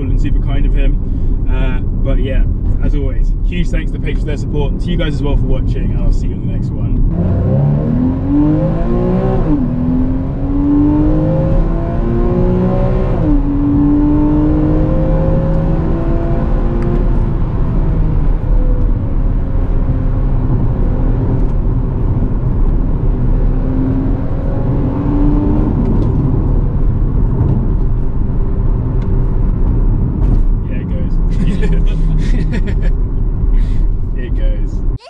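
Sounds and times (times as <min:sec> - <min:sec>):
car engine accelerating with upshifts: 0:00.0 - 0:35.0
road noise: 0:00.0 - 0:35.0.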